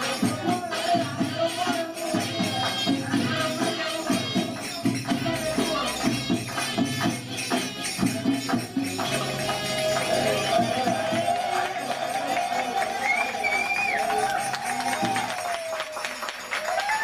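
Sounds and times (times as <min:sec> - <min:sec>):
jingling percussion: 0:00.0 - 0:17.0.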